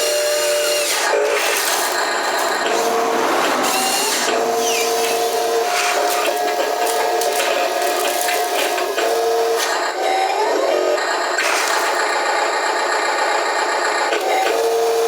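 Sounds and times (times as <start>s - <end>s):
electric gear motors whining: 0.0s - 15.0s.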